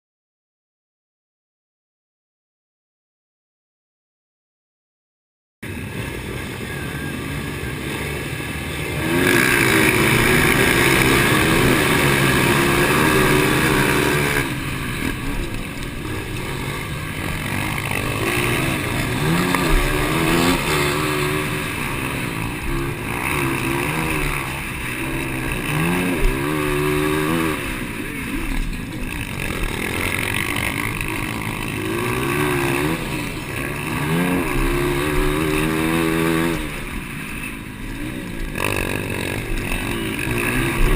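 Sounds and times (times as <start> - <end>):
dirt bike engines revving: 5.6 - 40.9.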